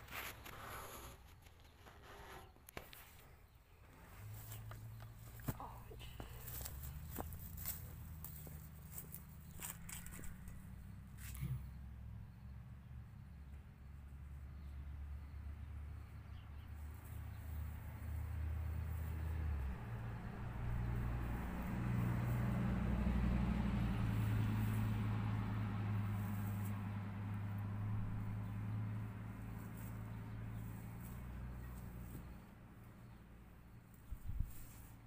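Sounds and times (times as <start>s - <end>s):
engine running: 3.8s - 35.0s.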